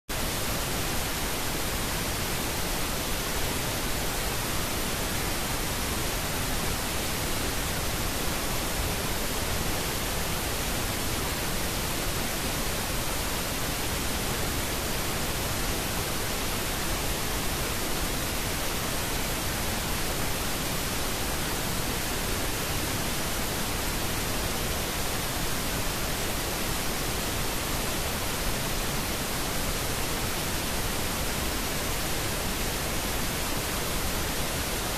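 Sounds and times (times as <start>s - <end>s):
steady noise hiss: 0.1s - 34.9s.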